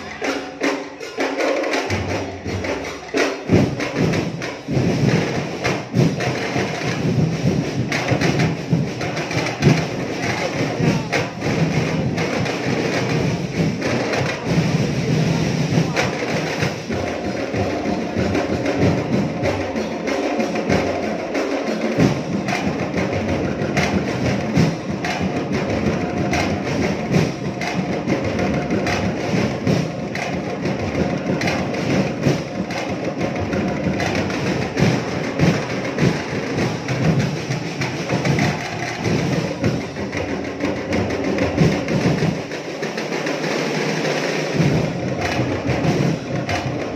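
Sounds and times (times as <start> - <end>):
fast drumming: 0.0 - 46.9.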